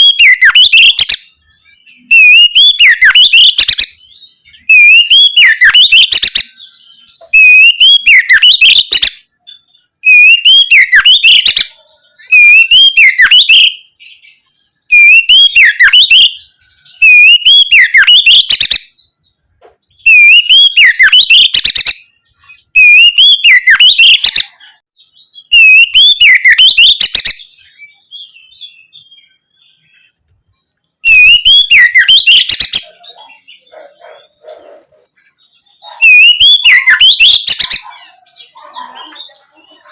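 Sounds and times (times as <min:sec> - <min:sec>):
bird singing whistles and rattles: 0:00.0 - 0:39.9.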